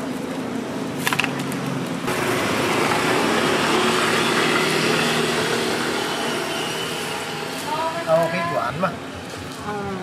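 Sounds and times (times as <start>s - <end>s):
street traffic noise: 0.0s - 10.0s
vehicle engine running nearby: 0.0s - 10.0s.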